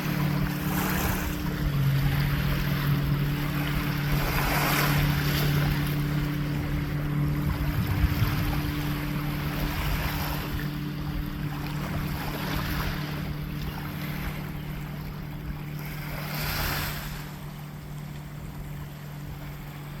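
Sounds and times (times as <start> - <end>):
steady low hum: 0.0 - 20.0
waves washing ashore: 0.0 - 20.0.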